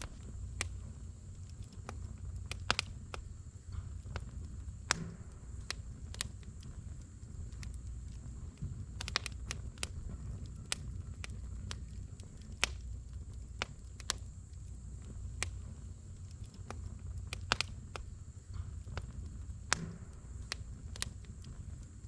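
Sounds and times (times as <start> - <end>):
campfire crackling and popping: 0.0 - 22.0
low steady rumble: 0.0 - 22.0.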